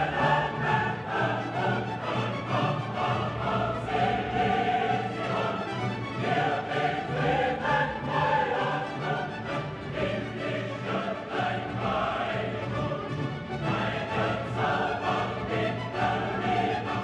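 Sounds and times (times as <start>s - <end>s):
choir singing sustained notes: 0.0s - 17.0s
orchestra playing dramatic music: 0.0s - 17.0s.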